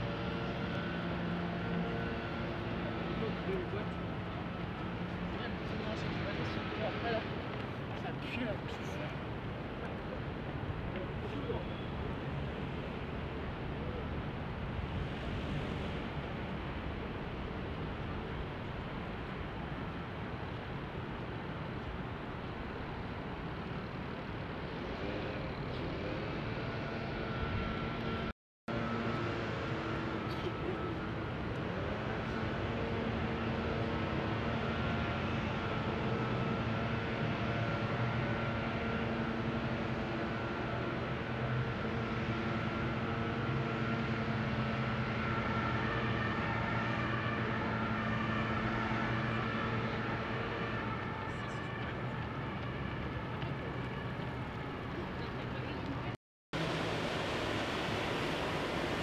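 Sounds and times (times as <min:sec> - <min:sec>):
traffic engine rumble: 0:00.0 - 0:59.0.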